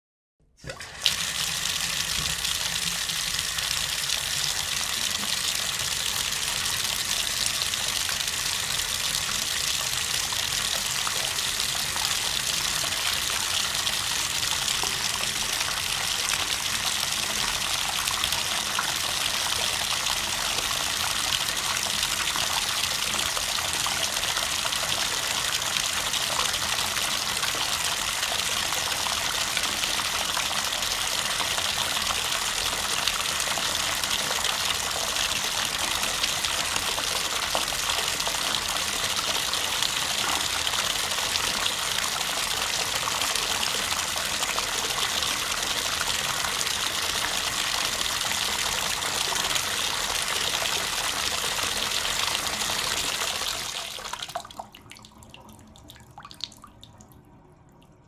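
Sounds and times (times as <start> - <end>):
faucet water gushing into tub: 0.6 - 56.9.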